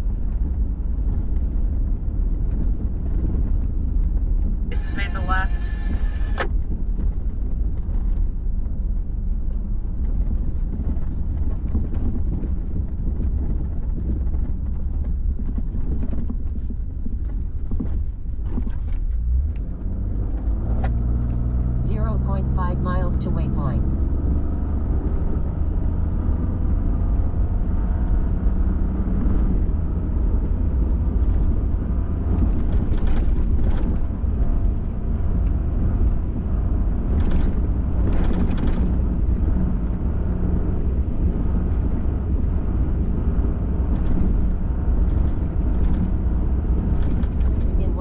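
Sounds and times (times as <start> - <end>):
truck engine and tyres rumbling: 0.0 - 48.0.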